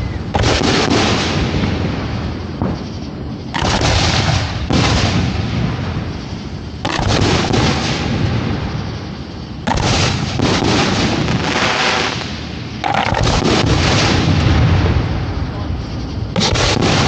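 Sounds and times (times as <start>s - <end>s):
fireworks bangs with rumbling tails: 0.0s - 17.0s.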